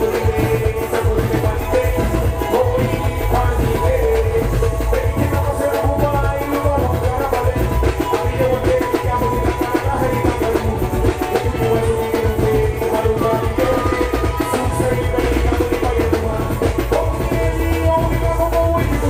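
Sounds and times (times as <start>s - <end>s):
driving drum beat: 0.0s - 19.0s
live band music: 0.0s - 19.0s.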